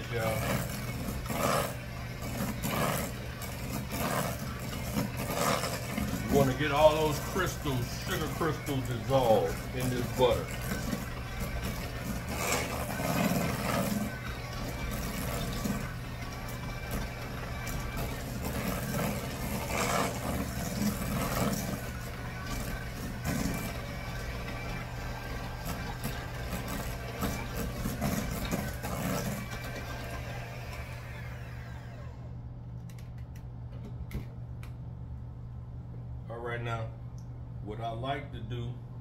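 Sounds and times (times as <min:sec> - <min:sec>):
electric hand mixer running: 0:00.0 - 0:32.4.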